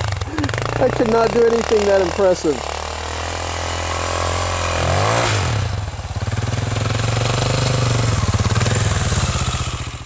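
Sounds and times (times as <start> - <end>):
motorcycle engine under throttle: 0.0 - 10.0.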